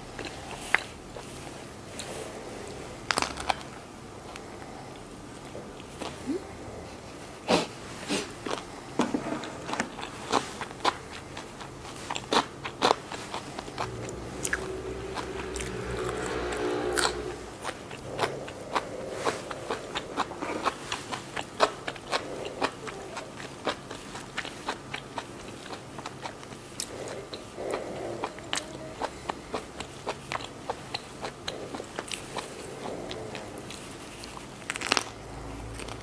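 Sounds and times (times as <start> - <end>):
chewing and crunching: 0.0 - 7.3, 8.1 - 36.0
low steady hum: 0.0 - 36.0.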